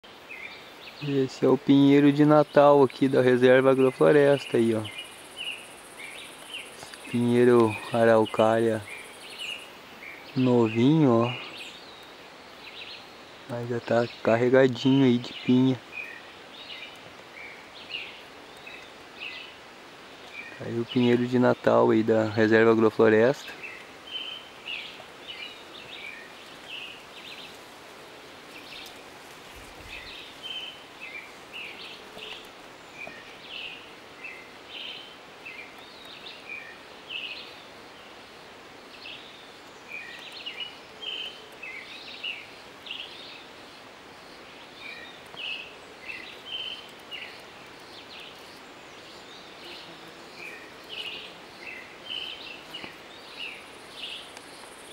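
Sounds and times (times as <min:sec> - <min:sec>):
faint outdoor hiss: 0:00.0 - 0:54.9
small birds chirping: 0:00.0 - 0:54.9.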